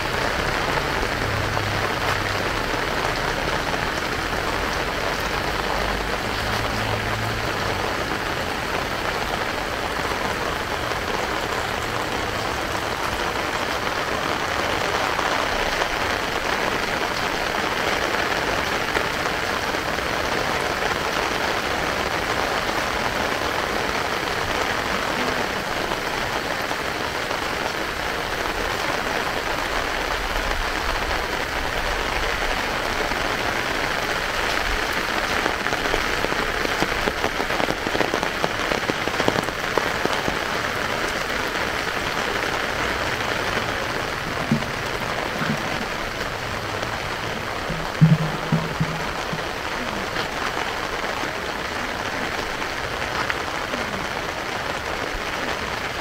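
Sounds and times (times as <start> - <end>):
heavy rain hissing: 0.0 - 56.0
sharp rain taps: 0.0 - 56.0.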